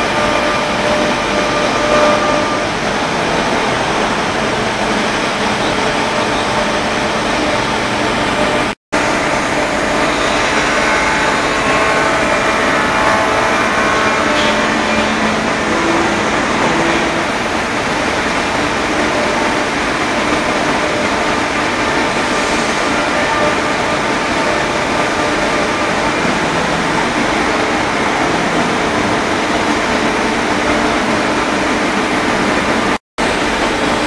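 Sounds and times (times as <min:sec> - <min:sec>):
woodworking machine running: 0:00.0 - 0:34.0.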